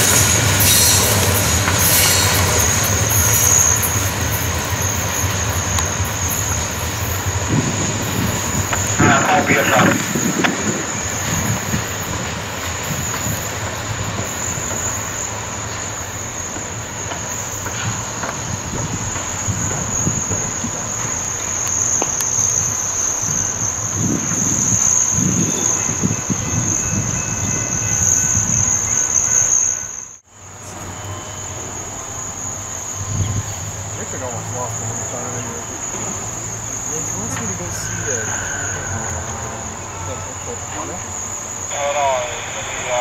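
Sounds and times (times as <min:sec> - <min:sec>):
insects chorus: 0:00.0 - 0:43.0.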